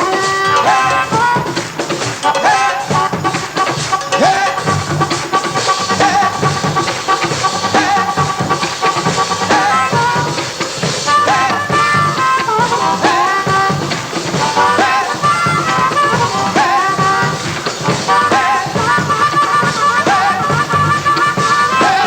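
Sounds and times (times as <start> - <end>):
drum kit beat: 0.0 - 22.0
pitch-bending melody line: 0.0 - 22.0.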